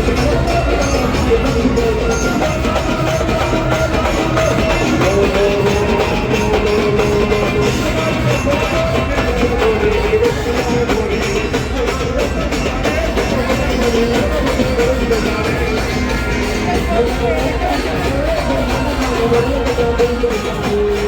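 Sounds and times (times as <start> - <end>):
loud music with drums: 0.0 - 21.0.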